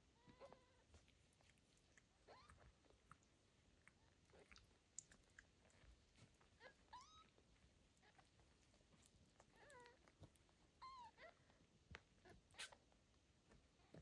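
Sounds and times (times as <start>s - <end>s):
small clicks and rustles: 0.2s - 14.0s.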